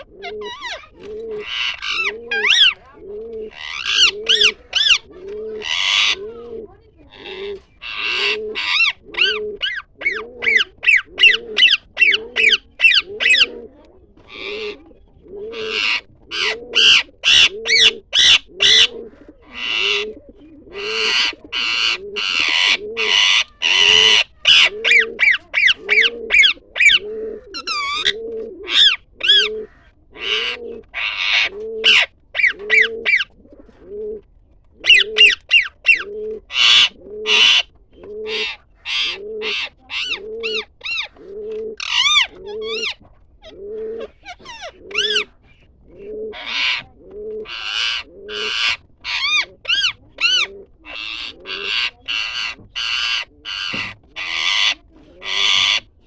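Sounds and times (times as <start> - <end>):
pigeon cooing: 0.0 - 56.0.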